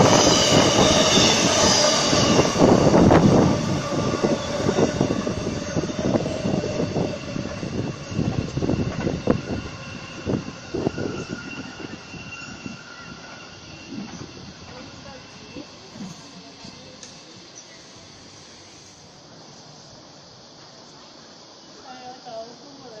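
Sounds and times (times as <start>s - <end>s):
train rumbling: 0.0s - 21.5s
faint high whine from rails: 0.0s - 23.0s.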